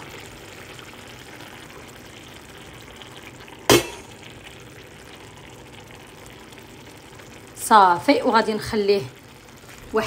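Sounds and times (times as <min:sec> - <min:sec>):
sauce bubbling hiss: 0:00.0 - 0:10.0.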